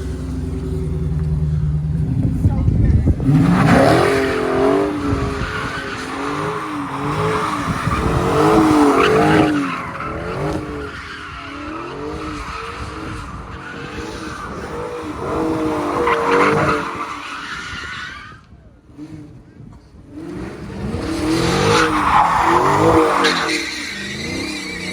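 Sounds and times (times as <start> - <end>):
car engine revving: 0.0 - 17.7, 18.8 - 24.9
tires squealing: 0.0 - 24.9.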